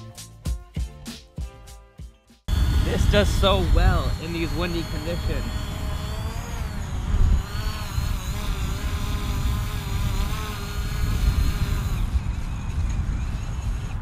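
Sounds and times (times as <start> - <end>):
drone propellers buzzing: 2.5 - 14.0
wind buffeting microphone: 2.5 - 14.0.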